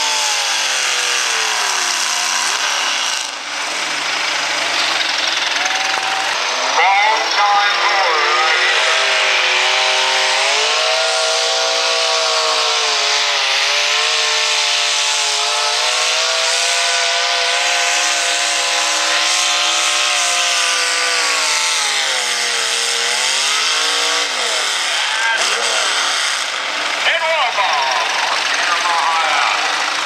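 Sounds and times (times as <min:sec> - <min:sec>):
engine revving under load: 0:00.0 - 0:30.0.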